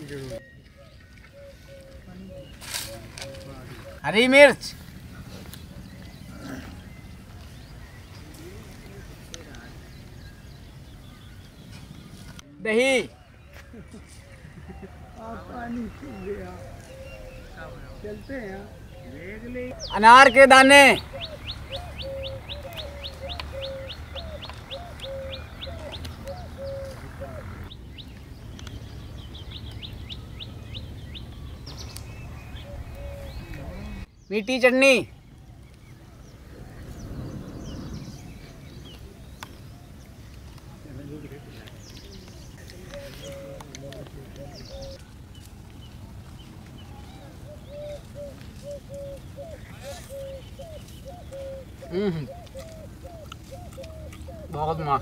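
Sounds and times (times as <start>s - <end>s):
low rumble of outdoor background: 0.0s - 34.4s, 35.0s - 55.0s
lower repeated bird call: 0.0s - 40.6s, 41.3s - 45.1s, 46.4s - 55.0s
birds chirping: 0.0s - 55.0s.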